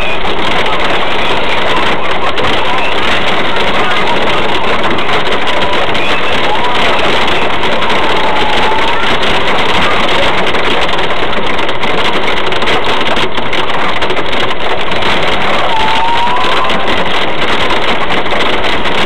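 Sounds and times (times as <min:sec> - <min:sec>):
hail and rain on car roof: 0:00.0 - 0:19.0.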